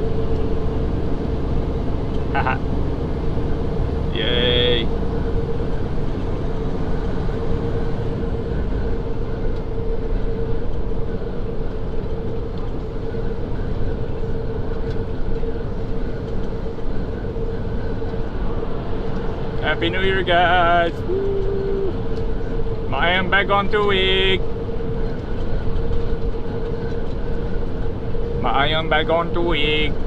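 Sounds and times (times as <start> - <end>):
steady hum: 0.0 - 30.0
truck engine rumble: 0.0 - 30.0.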